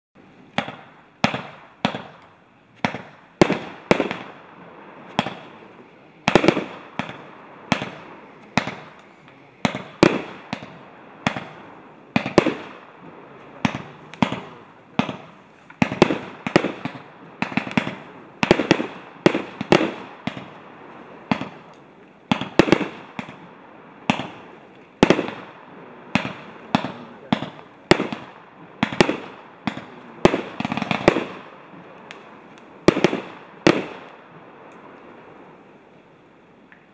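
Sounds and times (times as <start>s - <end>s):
fireworks cake bangs: 2.8s - 20.6s, 21.2s - 34.5s.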